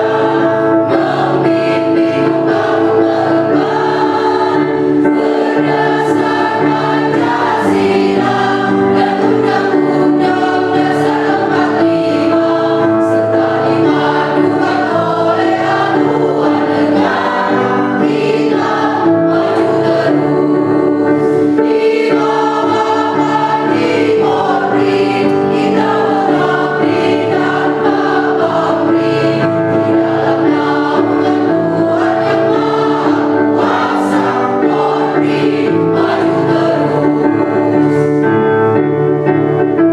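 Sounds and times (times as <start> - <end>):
choir singing a march: 0.0 - 38.3
musical accompaniment: 0.0 - 39.9.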